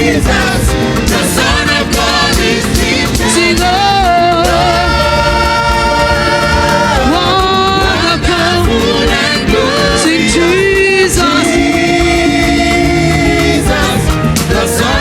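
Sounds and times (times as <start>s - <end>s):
gospel band playing: 0.0s - 15.0s.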